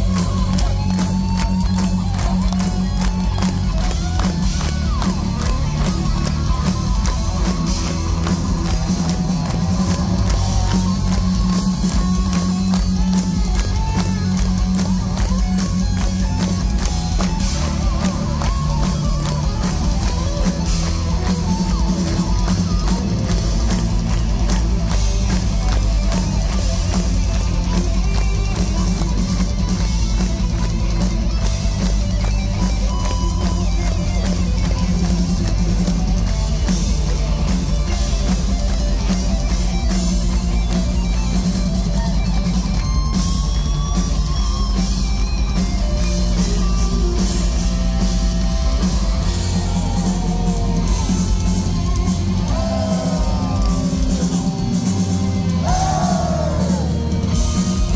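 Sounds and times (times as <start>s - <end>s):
bass guitar: 0.0s - 57.9s
distorted electric guitars: 0.0s - 57.9s
drum kit: 0.0s - 57.9s.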